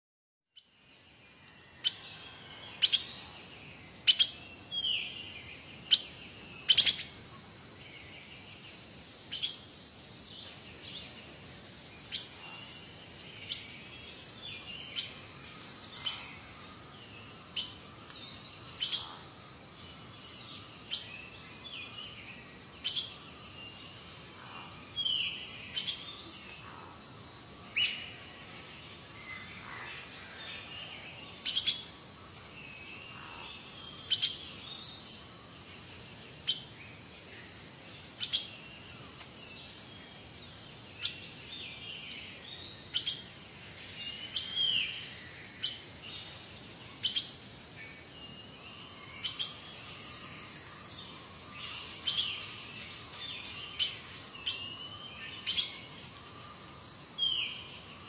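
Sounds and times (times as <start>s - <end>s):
birds chirping: 0.6s - 58.0s.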